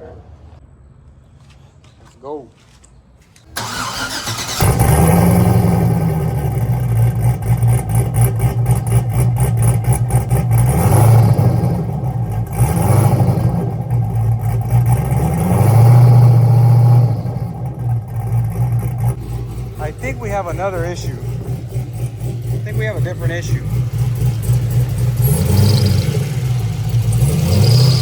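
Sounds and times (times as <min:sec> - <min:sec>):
loud choppy car engine: 0:03.5 - 0:28.0.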